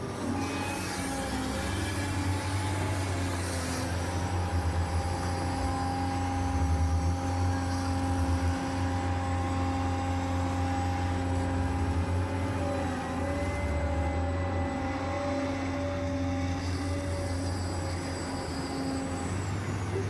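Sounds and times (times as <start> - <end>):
hydraulic pump whine and hum: 0.0 - 20.0.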